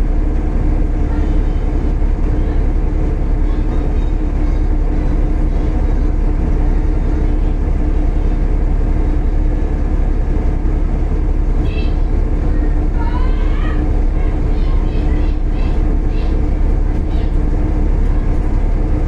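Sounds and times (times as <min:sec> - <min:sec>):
bus diesel engine rumbling: 0:00.0 - 0:19.0
engine whining hum: 0:00.0 - 0:19.0.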